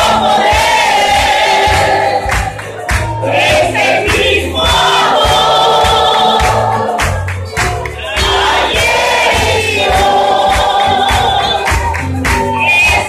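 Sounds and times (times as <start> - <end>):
congregation singing: 0.0 - 13.0
low accompanying line: 0.0 - 13.0.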